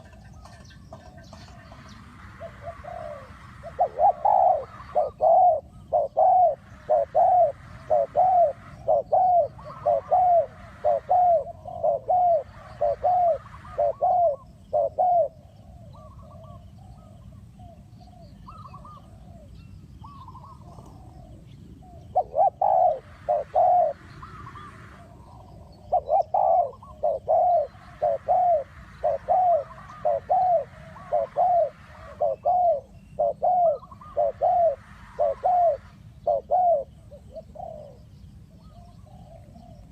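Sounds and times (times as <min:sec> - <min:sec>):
doves cooing: 0:00.0 - 0:39.9
faint bird chirps: 0:00.0 - 0:39.9.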